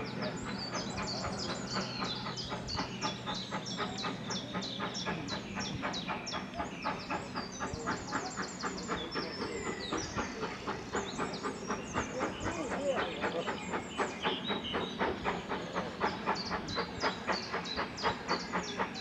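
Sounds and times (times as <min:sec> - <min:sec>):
steam locomotive chuffing: 0:00.0 - 0:19.0.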